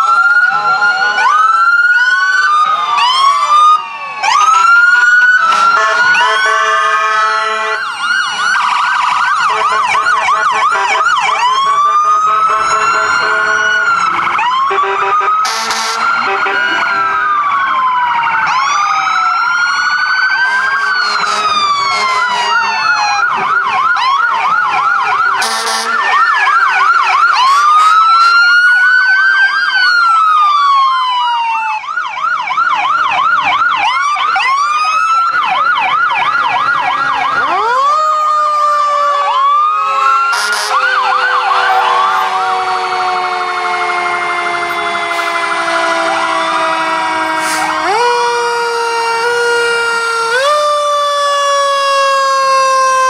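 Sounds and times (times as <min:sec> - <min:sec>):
emergency vehicle sirens wailing: 0:00.0 - 0:53.0
deeper siren winding up: 0:07.8 - 0:53.0.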